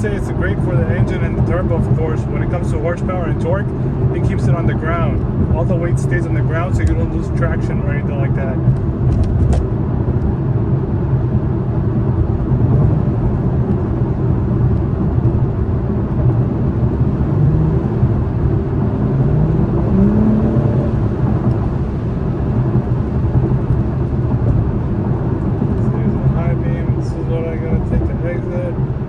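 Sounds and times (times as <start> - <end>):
car engine accelerating: 0.0 - 29.0
tyre road noise: 0.0 - 29.0.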